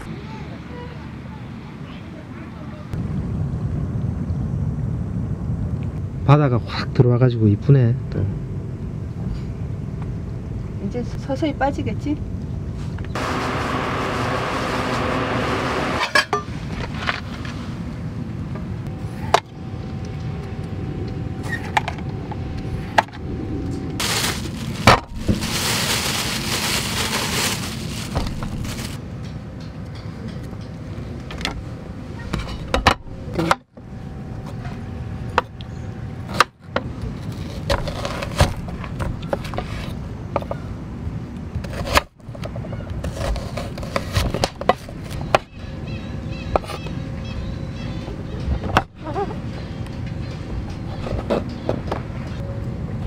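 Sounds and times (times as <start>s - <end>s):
low background rumble: 0.0s - 14.8s, 16.3s - 53.0s.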